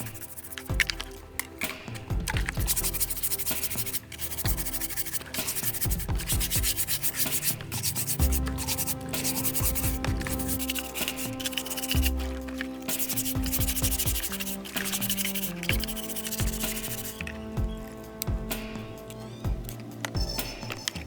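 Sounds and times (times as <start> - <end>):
sandpaper rubbing: 0.0 - 17.8.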